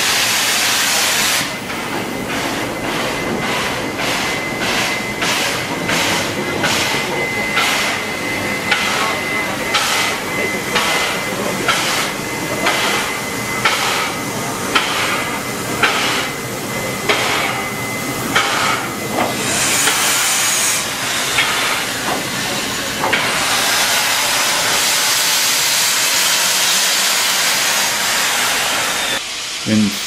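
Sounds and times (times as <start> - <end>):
loud steam hiss: 0.0 - 30.0.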